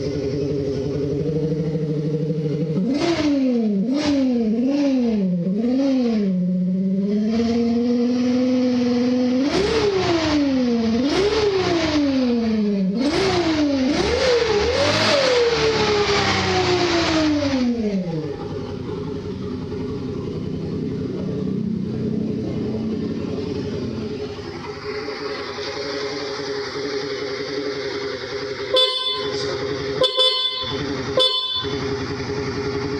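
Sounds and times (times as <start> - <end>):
scooter engine idling and revving: 0.0 - 32.9.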